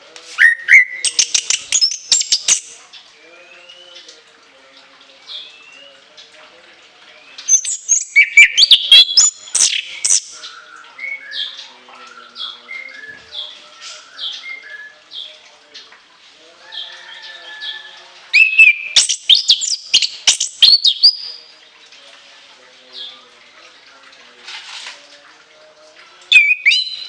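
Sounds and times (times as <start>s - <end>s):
thrush singing: 0.3s - 6.2s, 7.2s - 15.9s, 17.6s - 27.0s.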